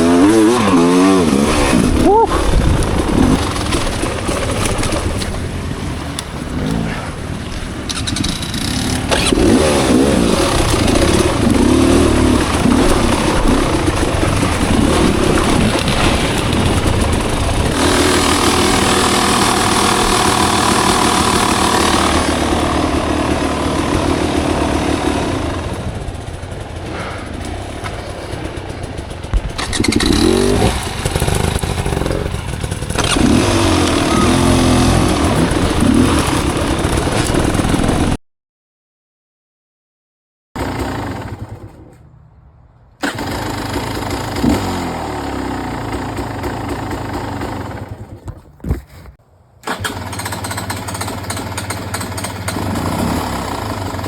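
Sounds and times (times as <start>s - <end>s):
motorcycle engine revving: 0.0s - 38.2s, 40.6s - 42.1s, 43.0s - 54.0s.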